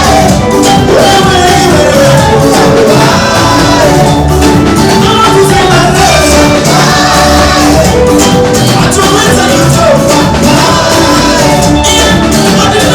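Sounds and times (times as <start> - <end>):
live gospel band: 0.0 - 12.9
person singing: 0.0 - 12.9.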